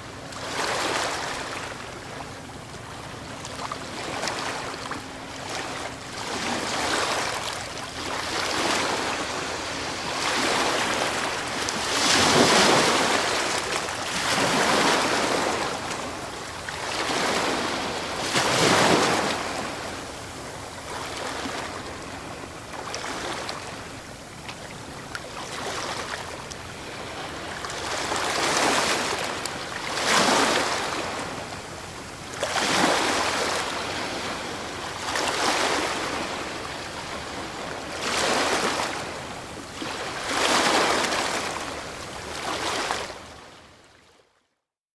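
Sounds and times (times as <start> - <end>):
ocean waves breaking on shore: 0.0 - 43.8.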